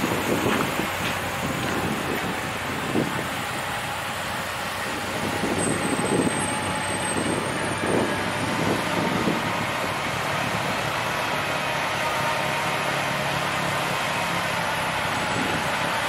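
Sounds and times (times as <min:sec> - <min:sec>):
heavy trucks and traffic: 0:00.0 - 0:16.0.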